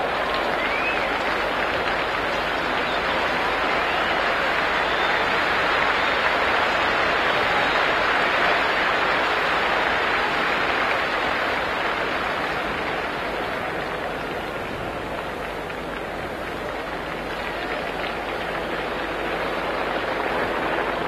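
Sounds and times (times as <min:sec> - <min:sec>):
stadium crowd voices: 0:00.0 - 0:21.0.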